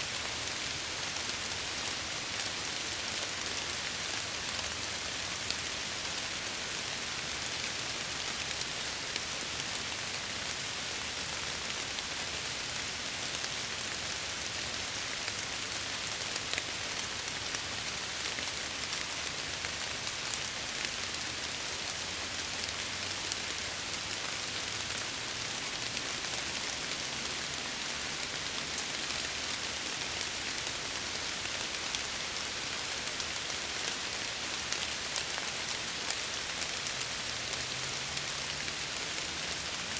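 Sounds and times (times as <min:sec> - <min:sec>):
rain on a window: 0:00.1 - 0:39.9.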